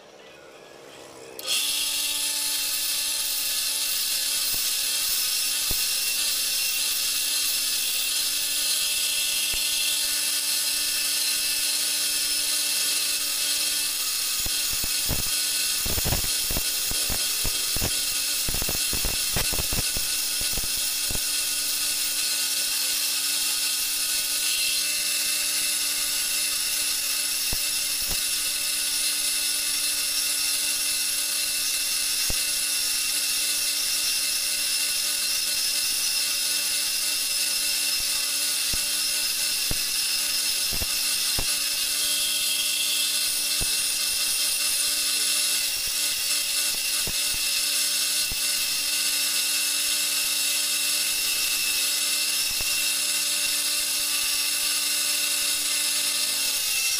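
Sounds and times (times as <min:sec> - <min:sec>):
chisel cutting spinning wood: 0:00.0 - 0:56.9
lathe motor hum: 0:00.0 - 0:56.9.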